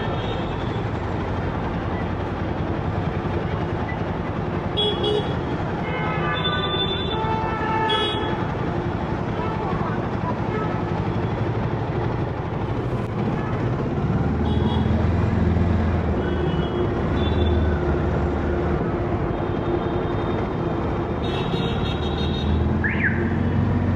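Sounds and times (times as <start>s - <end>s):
vehicle engines rumbling: 0.0s - 23.9s.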